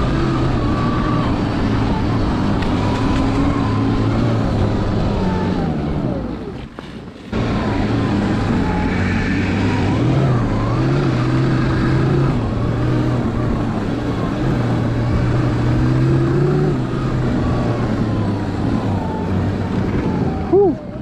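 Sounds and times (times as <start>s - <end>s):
electric motor and track whine: 0.0s - 21.0s.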